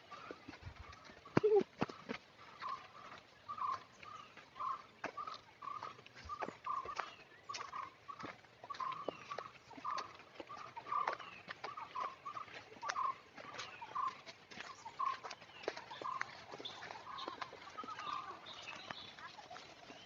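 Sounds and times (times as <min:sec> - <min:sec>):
animal calling: 0:00.0 - 0:20.0
footsteps crackling on trail: 0:00.0 - 0:20.0.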